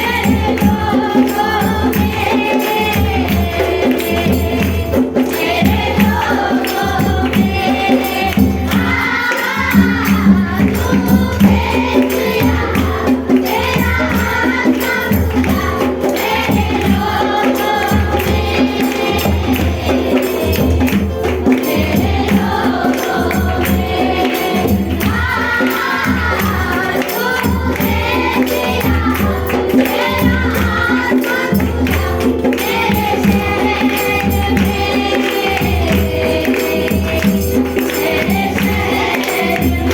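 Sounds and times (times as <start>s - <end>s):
congregation singing: 0.0s - 39.9s
tambourine beat: 0.0s - 39.9s.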